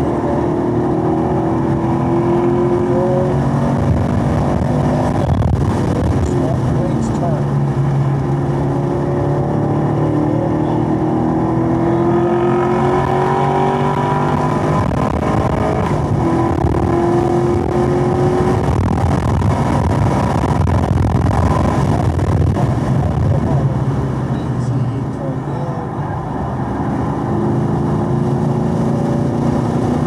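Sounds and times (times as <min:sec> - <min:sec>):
wind noise: 0:00.0 - 0:24.4
car engine accelerating: 0:00.0 - 0:30.0.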